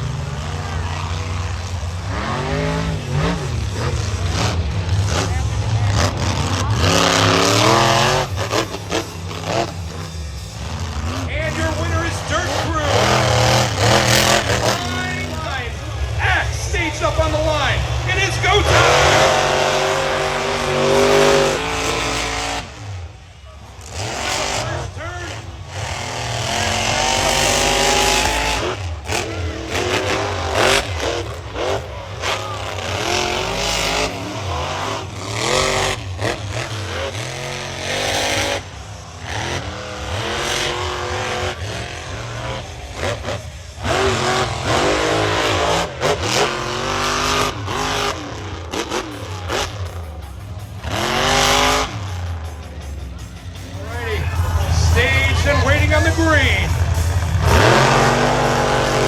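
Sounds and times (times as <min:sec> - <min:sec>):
monster truck engines revving: 0:00.0 - 0:59.0.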